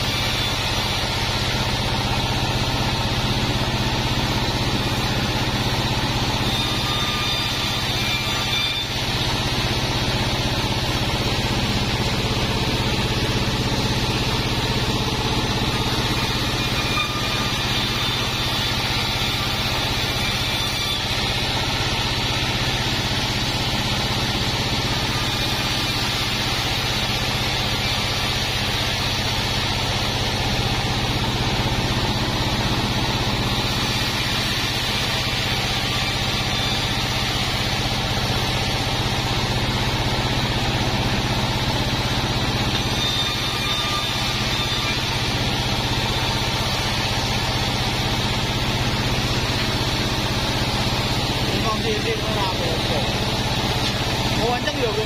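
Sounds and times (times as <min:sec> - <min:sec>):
band sawmill cutting timber: 0:00.0 - 0:55.0.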